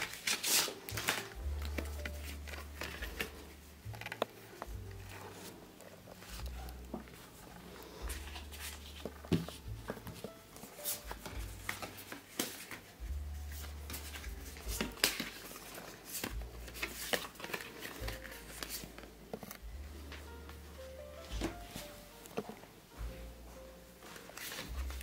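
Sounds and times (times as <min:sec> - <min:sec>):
paper postcards rustling: 0:00.0 - 0:20.6, 0:24.0 - 0:25.0.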